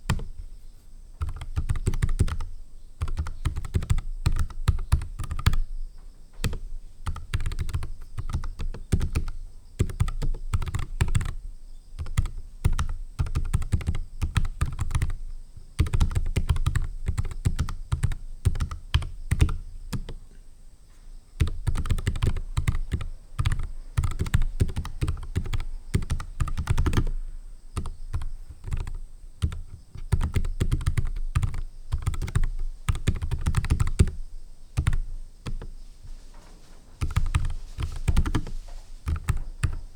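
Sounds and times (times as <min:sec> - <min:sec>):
typing on mechanical keyboard: 0:00.0 - 0:00.4, 0:01.2 - 0:05.6, 0:06.4 - 0:11.4, 0:12.0 - 0:15.2, 0:15.8 - 0:20.2, 0:21.4 - 0:27.2, 0:27.8 - 0:34.2, 0:34.8 - 0:35.7, 0:37.0 - 0:39.8.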